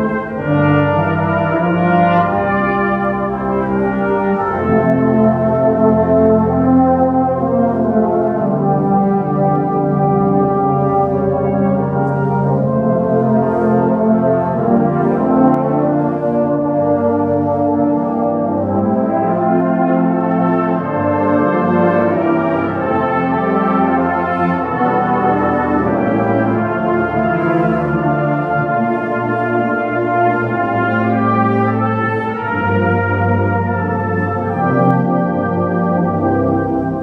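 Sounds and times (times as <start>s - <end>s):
brass band playing sustained chords: 0.0s - 37.0s.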